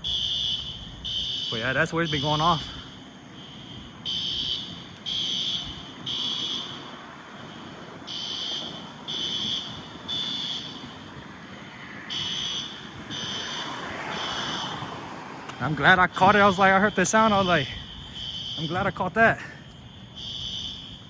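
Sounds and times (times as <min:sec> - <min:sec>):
fire alarm horns blaring: 0:00.0 - 0:21.0.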